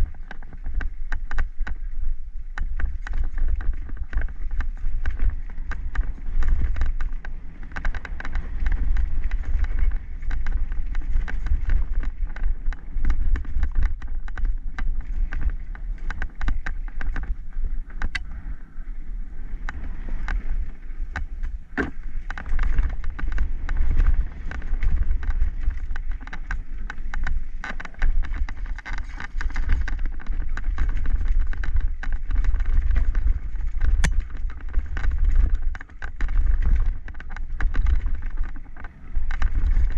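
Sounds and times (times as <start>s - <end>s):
bike rattling and knocking: 0.0s - 18.5s, 19.6s - 39.9s
wind buffeting microphone: 0.0s - 39.9s.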